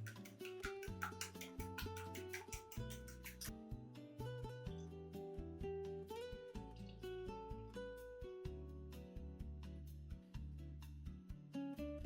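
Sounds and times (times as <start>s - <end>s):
plucked guitar: 0.0s - 12.0s.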